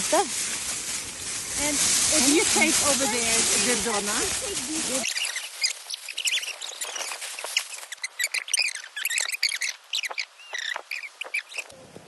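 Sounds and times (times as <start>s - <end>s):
songbirds chirping: 0.9s - 11.9s.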